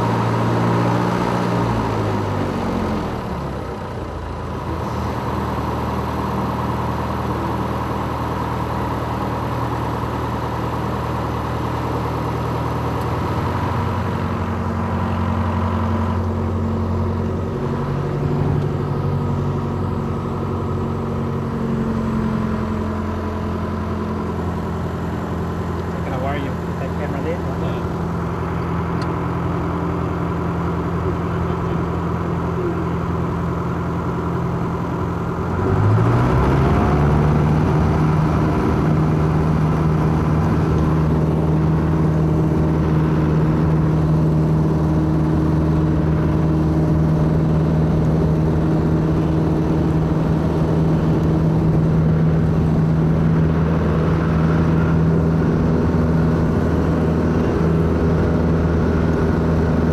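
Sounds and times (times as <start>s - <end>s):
light aircraft propeller engine: 0.0s - 59.9s.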